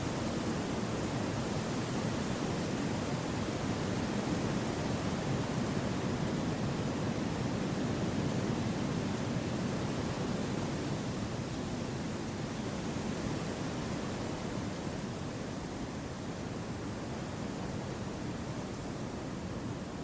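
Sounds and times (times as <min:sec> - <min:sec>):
gentle wind through trees: 0:00.0 - 0:20.0.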